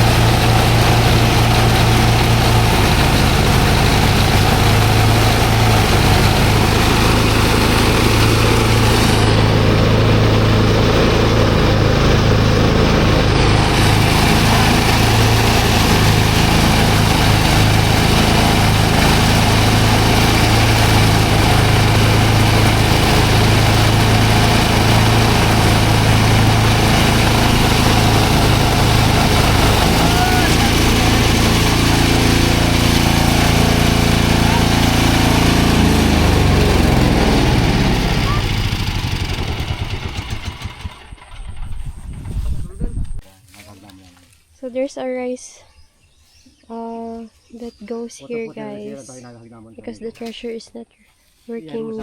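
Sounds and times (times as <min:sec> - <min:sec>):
thresher engine drone: 0:00.0 - 0:43.2.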